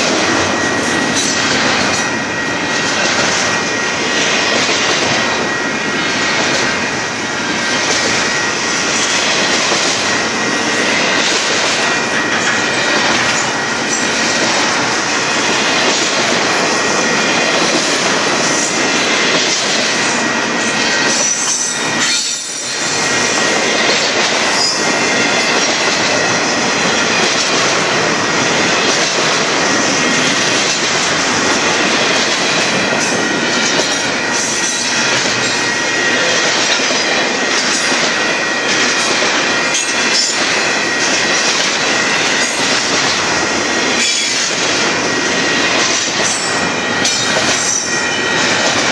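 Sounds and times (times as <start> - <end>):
freight train wheels rumbling on rails: 0.0 - 48.9.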